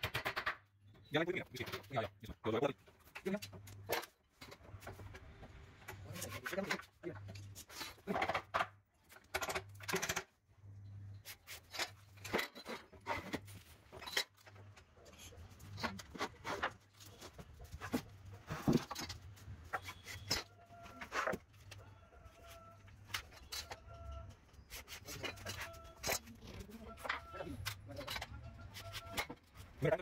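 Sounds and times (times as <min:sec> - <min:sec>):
wood and tools knocking and scraping: 0:00.0 - 0:30.0.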